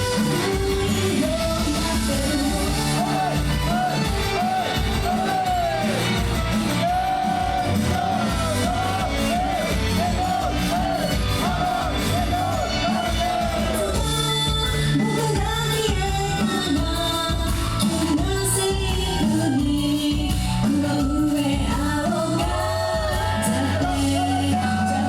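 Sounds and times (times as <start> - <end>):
loud band music: 0.0 - 25.0
women singing pop-rock: 0.0 - 25.0.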